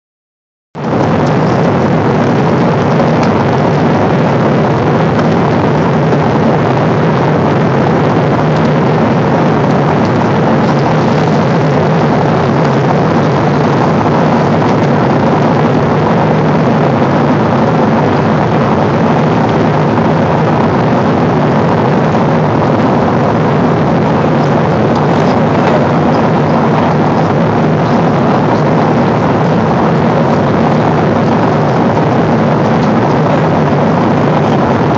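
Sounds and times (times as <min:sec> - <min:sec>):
jet engine cabin noise: 0:00.8 - 0:34.9
low hum: 0:00.8 - 0:34.9.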